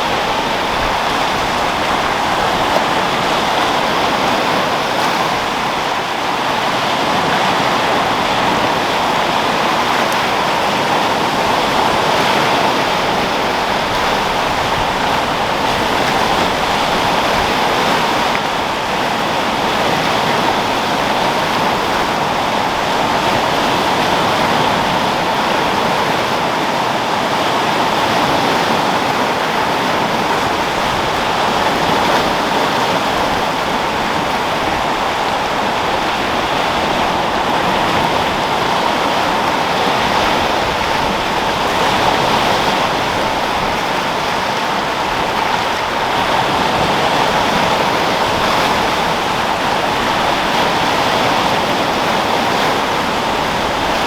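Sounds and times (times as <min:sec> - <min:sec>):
sea waves breaking: 0:00.0 - 0:54.0
wind: 0:00.0 - 0:54.0.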